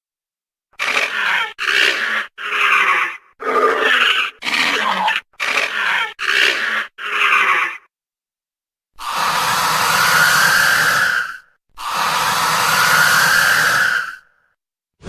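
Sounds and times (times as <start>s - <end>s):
dinosaur growling calls: 0.8s - 7.9s, 9.0s - 14.4s.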